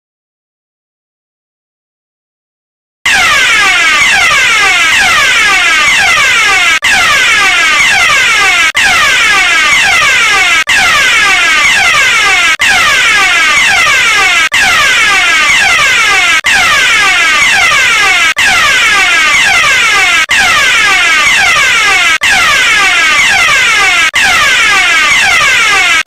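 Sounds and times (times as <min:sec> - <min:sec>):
fire alarm sweeping tone: 0:03.1 - 0:26.0.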